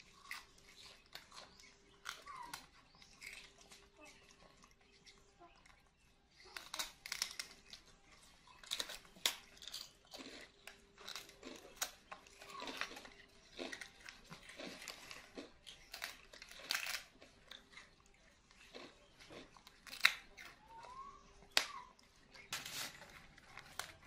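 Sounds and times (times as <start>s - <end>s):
crisp wafers crunching: 0.0s - 4.8s, 6.4s - 7.9s, 8.5s - 24.0s.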